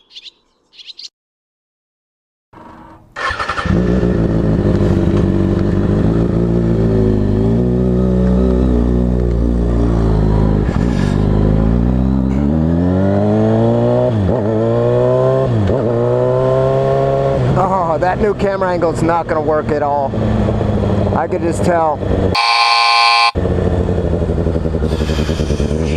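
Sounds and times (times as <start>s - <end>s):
motorcycle engine accelerating: 2.6s - 21.4s, 22.0s - 25.9s.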